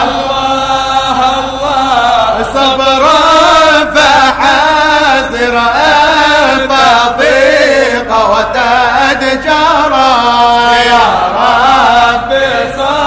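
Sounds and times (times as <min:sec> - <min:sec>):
person chanting long sung notes: 0:00.0 - 0:13.0.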